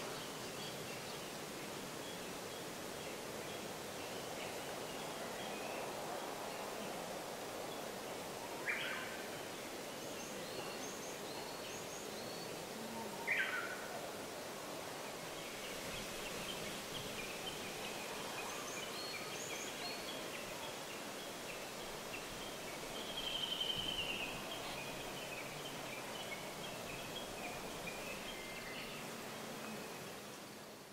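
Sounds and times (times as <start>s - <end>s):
steady background hiss: 0.0s - 30.9s.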